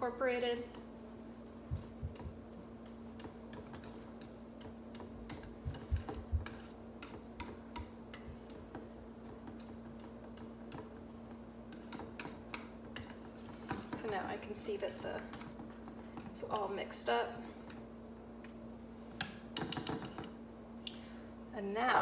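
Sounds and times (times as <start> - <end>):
utensil stirring in metal bowl: 0.3 - 18.0.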